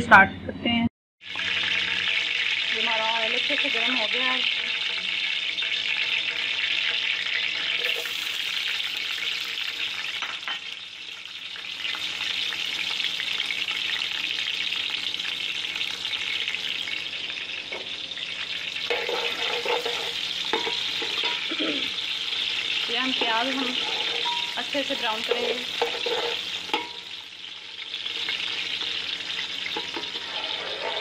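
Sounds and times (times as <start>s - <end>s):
oil sizzling in a pot: 1.2s - 31.0s.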